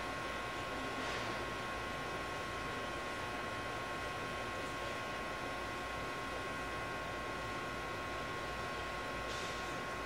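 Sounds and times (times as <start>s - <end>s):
train equipment hum and hiss: 0.0s - 10.0s.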